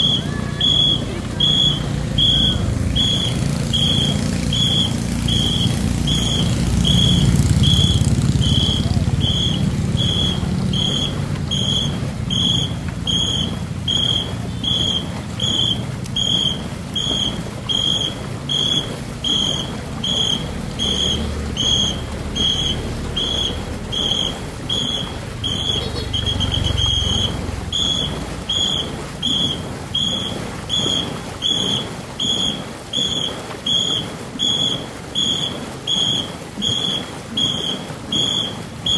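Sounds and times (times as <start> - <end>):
whistle short blasts: 0.0 - 38.9.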